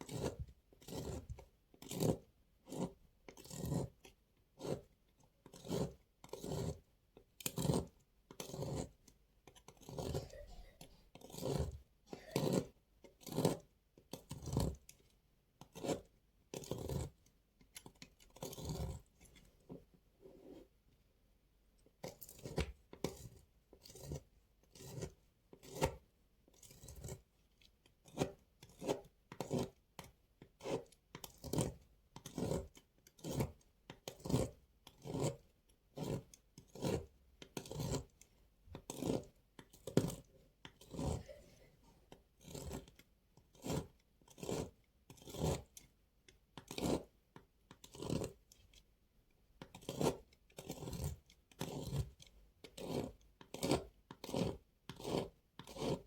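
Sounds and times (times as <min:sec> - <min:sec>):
bar soap being cut: 0:00.0 - 0:20.6, 0:21.8 - 0:56.0.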